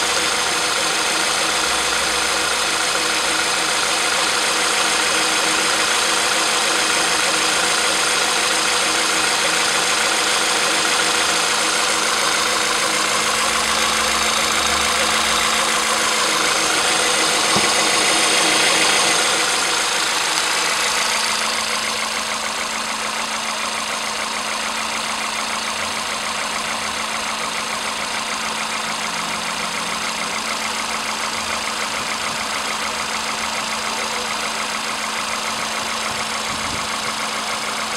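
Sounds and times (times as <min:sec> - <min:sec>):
car engine idling: 0:00.0 - 0:37.9
fine rapid engine ticking: 0:00.0 - 0:37.9.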